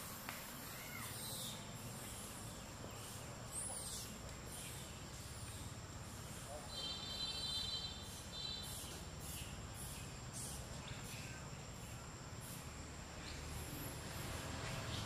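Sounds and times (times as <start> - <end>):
high insect whine: 0.0 - 15.0.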